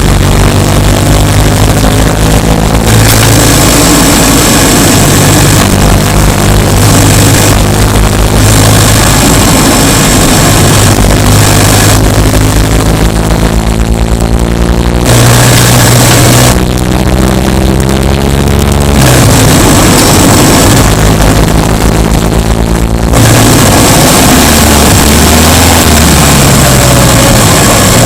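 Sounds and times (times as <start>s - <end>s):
car engine revving and shifting: 0.0s - 28.0s.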